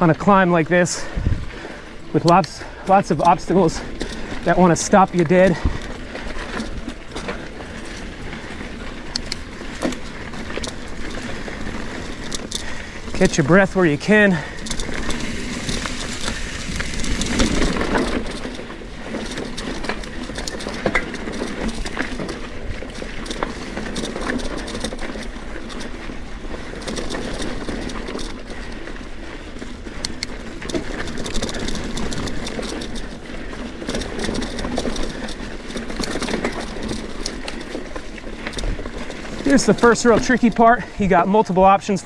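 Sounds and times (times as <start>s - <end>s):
bike clicks and knocks: 0.0s - 42.0s
bike tyres grinding over rock: 0.0s - 42.0s.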